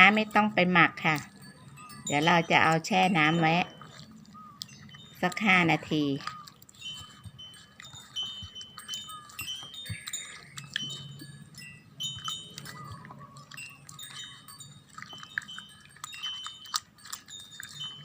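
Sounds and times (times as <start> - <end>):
wind chimes tinkling: 0.0 - 18.0.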